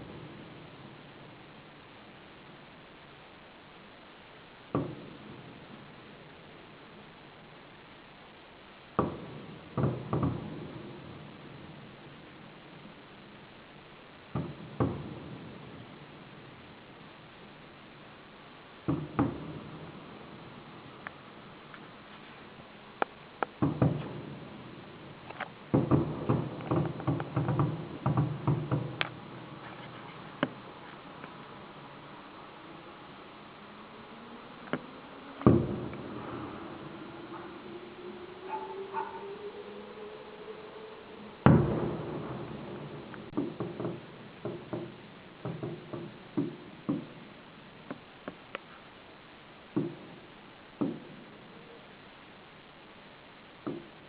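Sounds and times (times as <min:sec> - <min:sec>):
fireworks cracks and bangs: 0:00.0 - 0:33.8, 0:34.5 - 0:39.6, 0:41.1 - 0:54.0.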